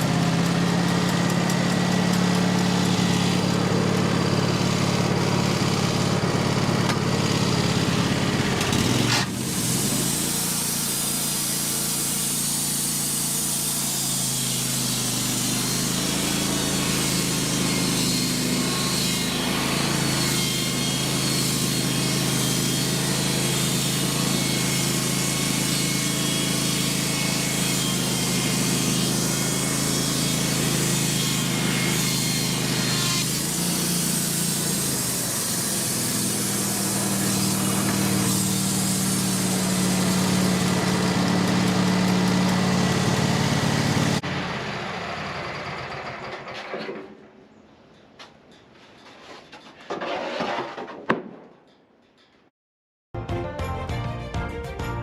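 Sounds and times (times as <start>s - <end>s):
sawmill engine running: 0.0s - 47.2s.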